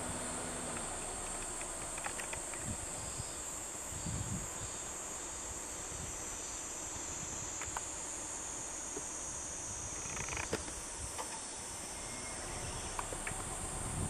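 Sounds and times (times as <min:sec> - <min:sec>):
background hiss: 0:00.0 - 0:14.0
insects droning: 0:00.0 - 0:14.0.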